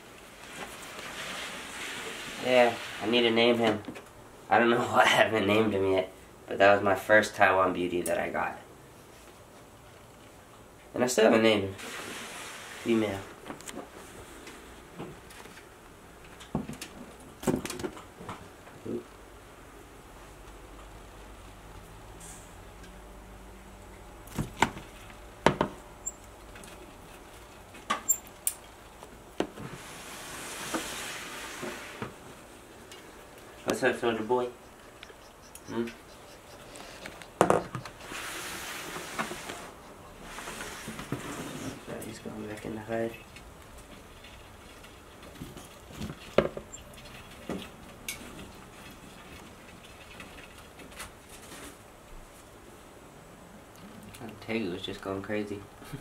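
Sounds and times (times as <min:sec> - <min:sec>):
soft hiss-like noise: 0:00.0 - 0:56.0.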